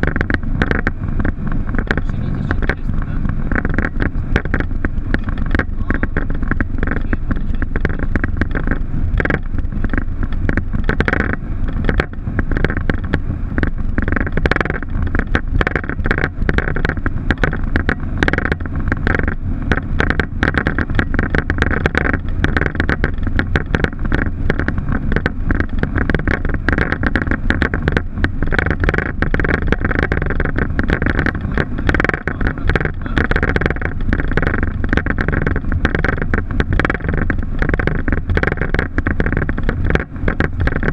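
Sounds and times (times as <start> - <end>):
cockpit rattling and knocking: 0.0 - 40.9
jet engine and airflow rumble: 0.0 - 40.9.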